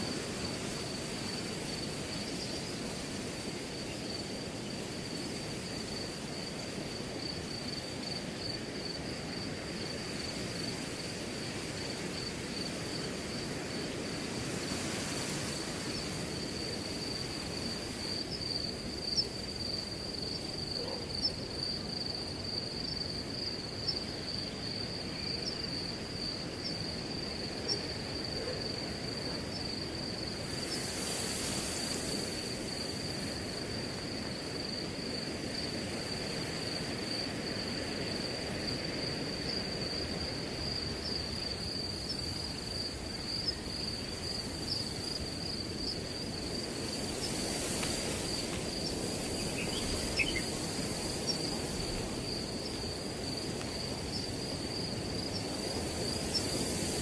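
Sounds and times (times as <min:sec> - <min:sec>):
crickets trilling: 0:00.0 - 0:57.0
wind rustling grass: 0:00.0 - 0:57.0.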